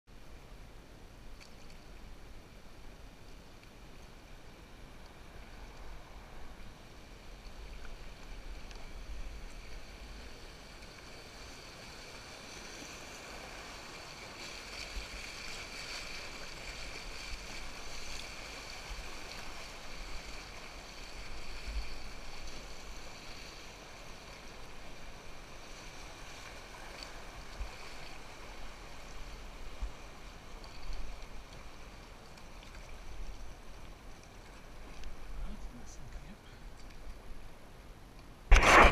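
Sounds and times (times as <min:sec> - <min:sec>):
river water rushing: 0:03.8 - 0:38.9.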